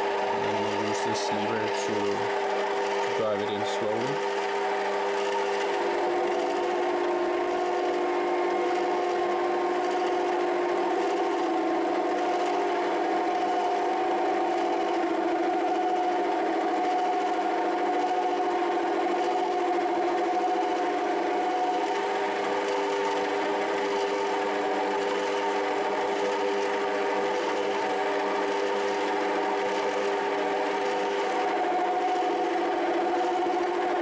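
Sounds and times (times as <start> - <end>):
mini lathe whining: 0.0 - 34.0.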